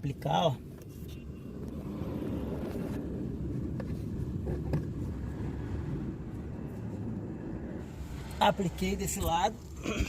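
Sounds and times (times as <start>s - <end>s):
steady low rumble: 0.6s - 10.0s.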